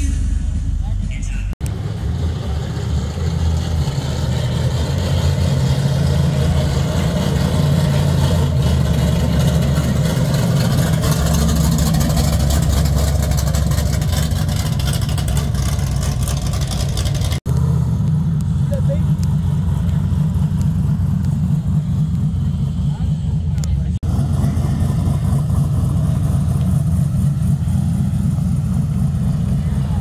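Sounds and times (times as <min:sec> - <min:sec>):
truck engine deep rumble: 0:00.0 - 0:30.0.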